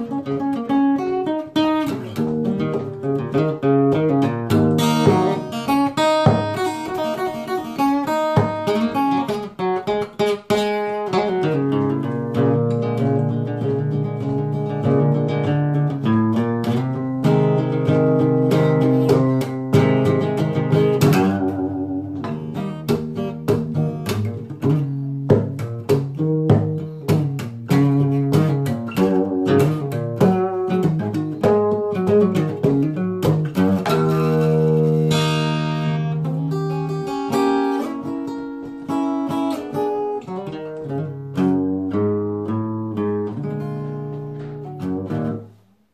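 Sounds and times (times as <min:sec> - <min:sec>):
acoustic guitar playing blues: 0:00.0 - 0:45.9.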